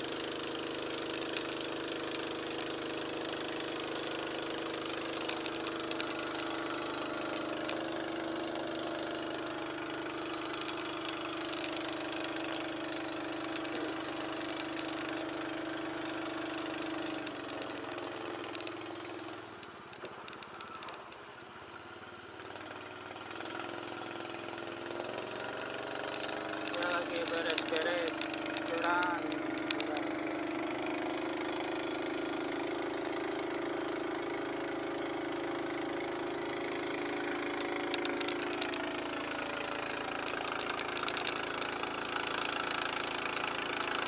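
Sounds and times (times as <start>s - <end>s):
small engine idling: 0.0s - 44.0s.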